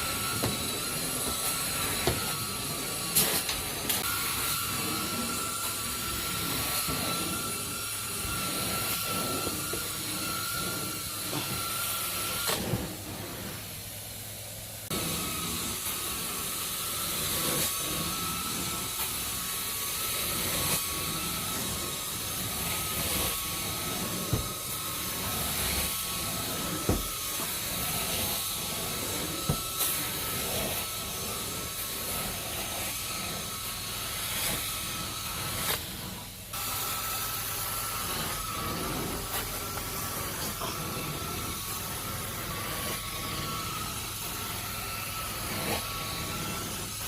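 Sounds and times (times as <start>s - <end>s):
vacuum cleaner motor whine: 0.0s - 47.0s.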